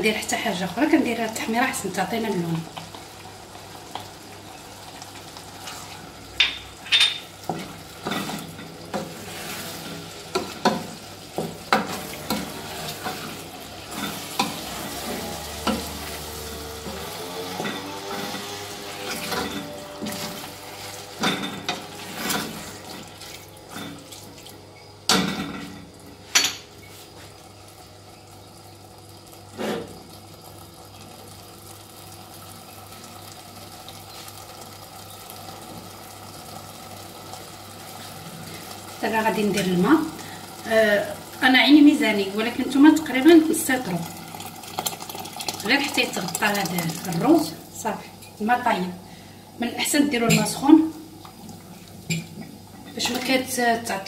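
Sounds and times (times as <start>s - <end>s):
rice sizzling in oil: 0.0s - 54.0s.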